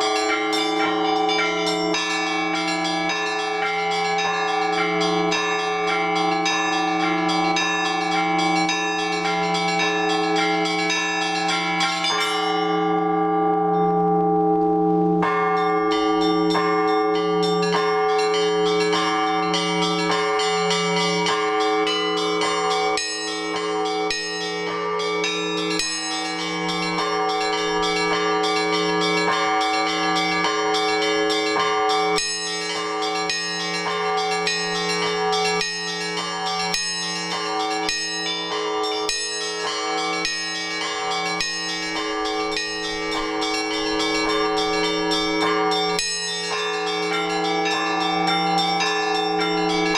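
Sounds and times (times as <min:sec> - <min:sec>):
deep church bells humming: 0:00.0 - 0:49.9
rapid high church bells: 0:00.0 - 0:49.9.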